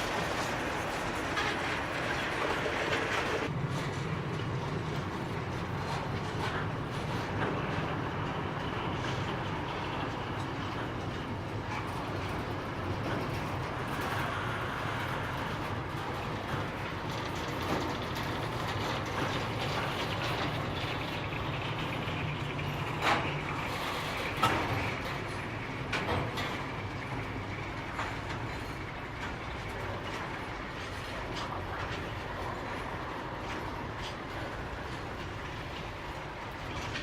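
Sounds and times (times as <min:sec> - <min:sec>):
train wheels clattering on rails: 0:00.0 - 0:37.0.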